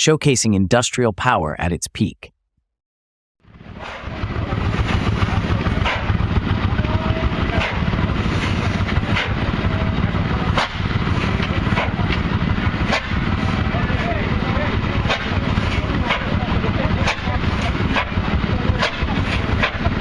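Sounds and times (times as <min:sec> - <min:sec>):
diesel engine low rumble: 0:03.5 - 0:20.0.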